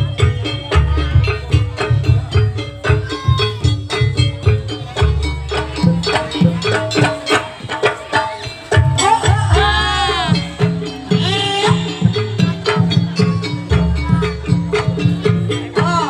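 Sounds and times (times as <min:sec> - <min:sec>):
hand drums beating: 0:00.0 - 0:16.0
pitched percussion: 0:00.0 - 0:16.0
wavering melody line: 0:00.7 - 0:16.0.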